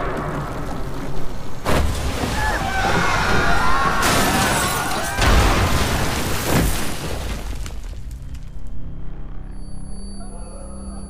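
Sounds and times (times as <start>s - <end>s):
film score: 0.0s - 11.0s.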